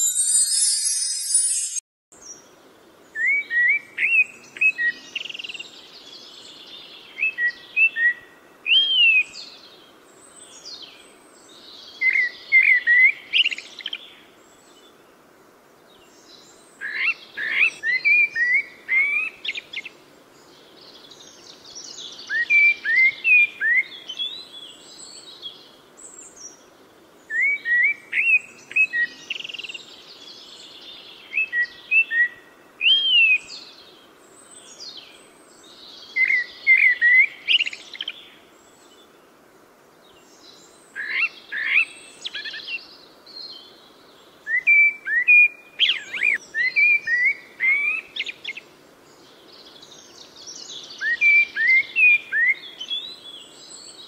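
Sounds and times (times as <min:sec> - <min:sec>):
faint background hiss: 0:00.0 - 0:54.0.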